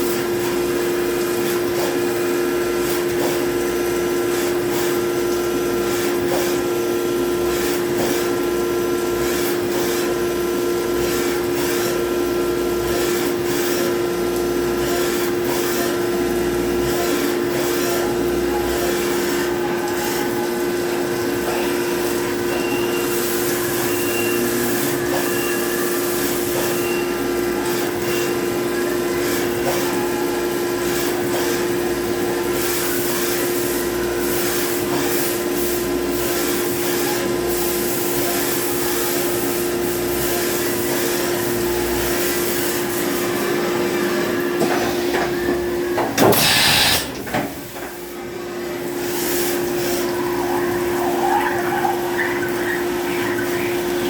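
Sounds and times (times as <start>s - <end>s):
machine drone and whir: 0.0s - 47.7s, 49.3s - 54.0s.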